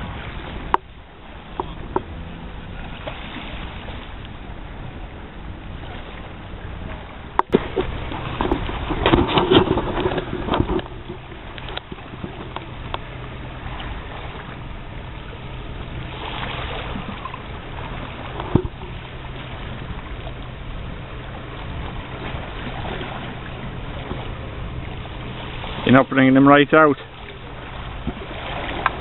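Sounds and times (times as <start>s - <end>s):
constant low hum: 0.0s - 29.0s
sea waves: 0.0s - 29.0s
wind: 0.0s - 29.0s.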